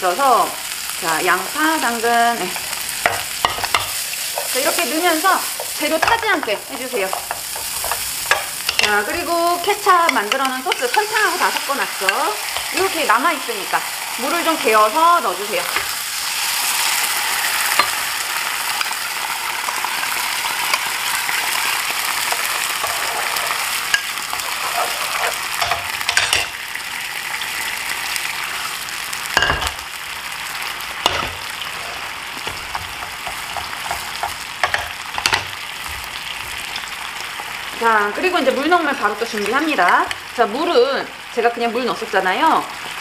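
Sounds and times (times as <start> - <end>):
sauce sizzling in a frying pan: 0.0 - 43.0.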